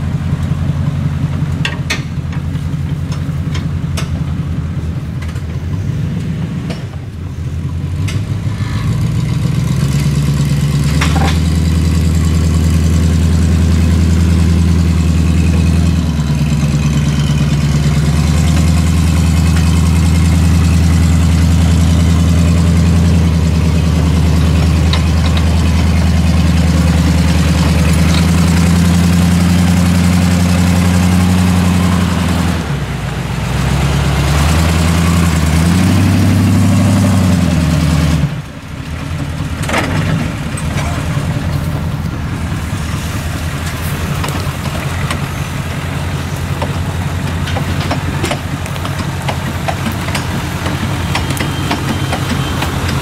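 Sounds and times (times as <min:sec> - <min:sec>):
truck engine running under load: 0:00.0 - 0:53.0.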